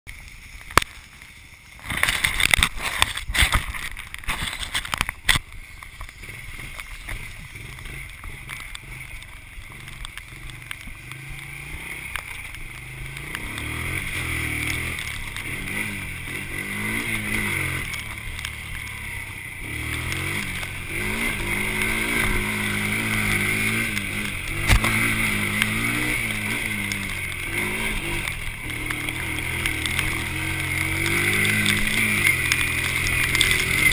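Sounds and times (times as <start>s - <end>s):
quad bike engine revving: 1.8s - 33.9s.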